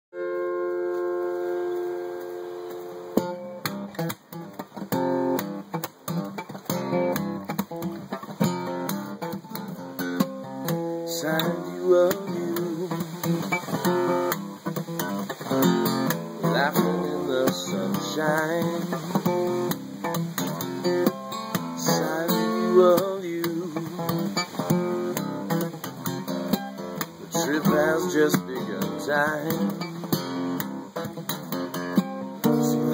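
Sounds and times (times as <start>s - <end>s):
acoustic guitar playing: 0.1s - 32.9s.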